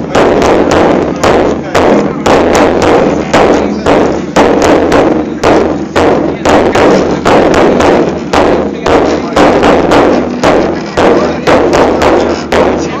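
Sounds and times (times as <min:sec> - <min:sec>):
large drum beaten with sticks: 0:00.0 - 0:13.0.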